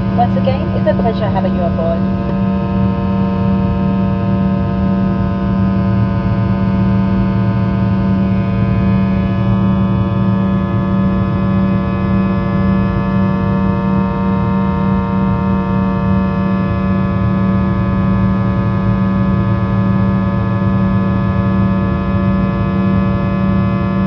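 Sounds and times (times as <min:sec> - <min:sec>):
jet engines droning in cabin: 0:00.0 - 0:24.0.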